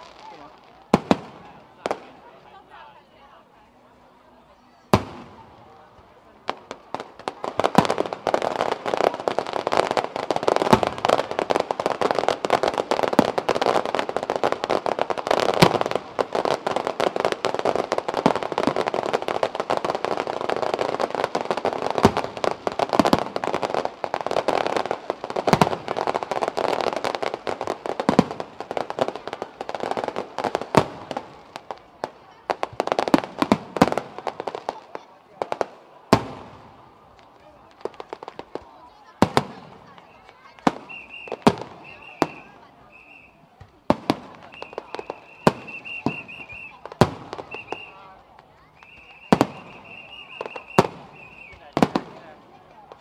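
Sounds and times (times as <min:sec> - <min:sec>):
fireworks crackling: 0:00.0 - 0:53.0.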